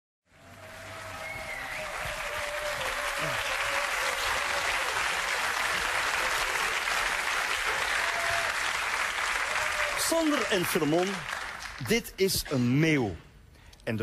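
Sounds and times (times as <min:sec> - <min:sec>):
audience applauding: 0:00.3 - 0:12.8.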